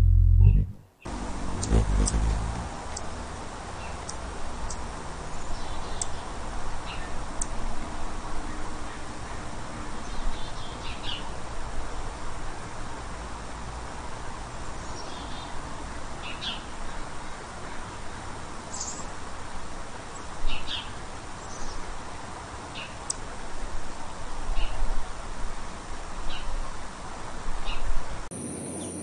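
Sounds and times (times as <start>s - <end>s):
background hiss: 0.0s - 8.4s, 9.6s - 29.0s.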